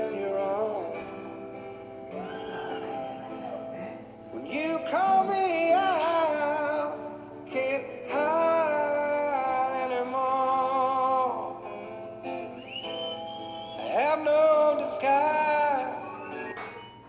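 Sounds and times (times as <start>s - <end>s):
song over speakers: 0.0s - 17.0s.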